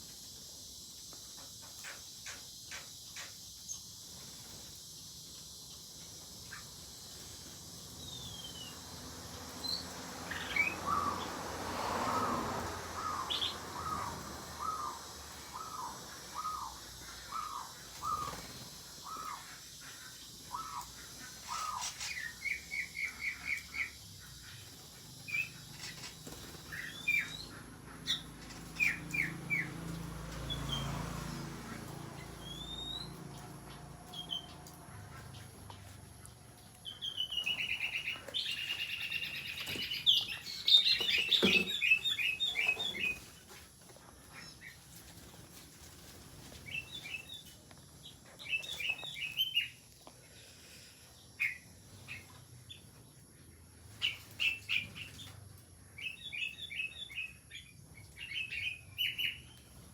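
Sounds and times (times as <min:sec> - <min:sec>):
birds calling: 0:05.7 - 0:59.9.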